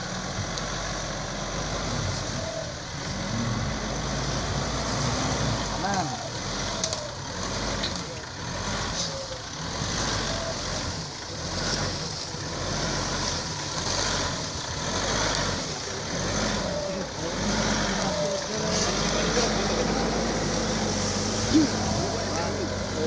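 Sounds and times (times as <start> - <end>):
faint voices: 0.0 - 23.0
pickup engine running at low revs: 0.0 - 23.0.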